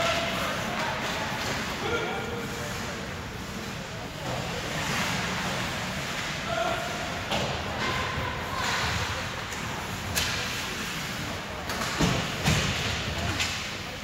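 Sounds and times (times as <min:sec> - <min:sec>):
hockey sticks and skates on ice: 0:00.0 - 0:14.0
murmur of spectators: 0:00.0 - 0:14.0.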